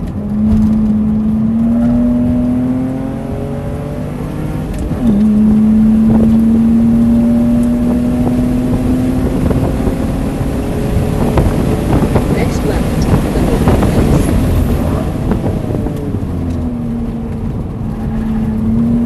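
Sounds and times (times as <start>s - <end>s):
car engine accelerating hard: 0.0s - 19.0s
road noise rushing: 0.0s - 19.0s.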